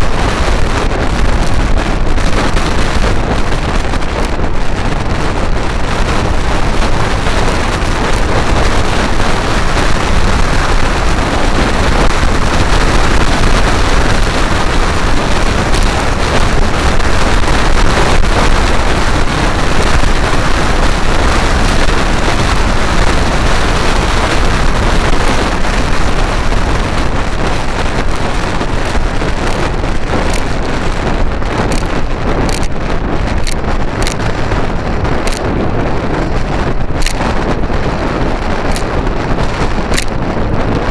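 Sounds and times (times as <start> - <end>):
road noise: 0.0 - 40.9
wind rushing over microphone: 0.0 - 40.9.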